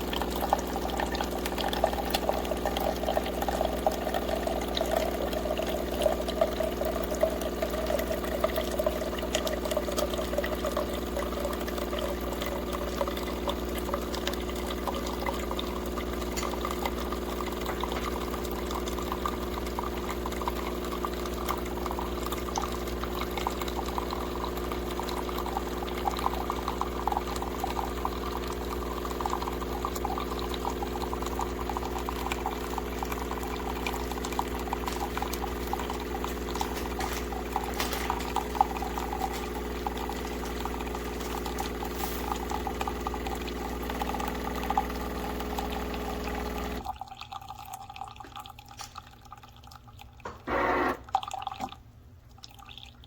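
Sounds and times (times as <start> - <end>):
coffee machine hum: 0.0 - 47.7, 50.2 - 51.3
coffee pouring into carafe: 0.0 - 53.0.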